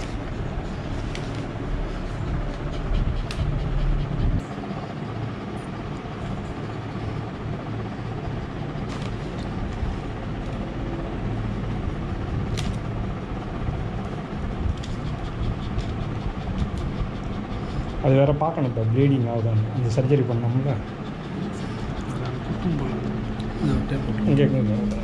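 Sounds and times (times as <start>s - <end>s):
low rumble and hiss: 0.0s - 25.0s.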